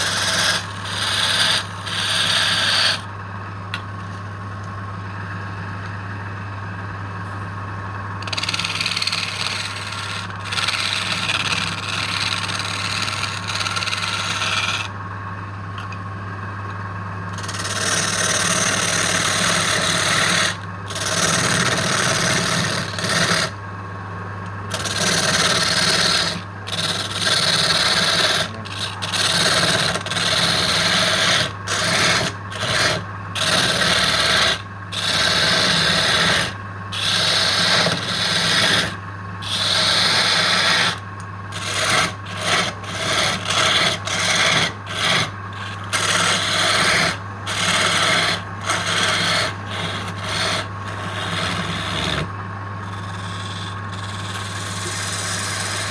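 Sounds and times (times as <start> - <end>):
tool rasping against spinning wood: 0.0 - 3.1, 8.2 - 14.9, 17.3 - 23.6, 24.6 - 55.9
lathe motor hum: 0.0 - 55.9.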